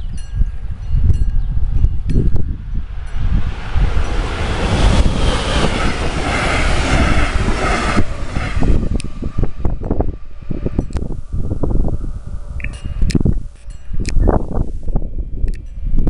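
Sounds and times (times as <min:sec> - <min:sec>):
wind buffeting the microphone: 0:00.0 - 0:16.0
train passing close by: 0:00.2 - 0:15.8.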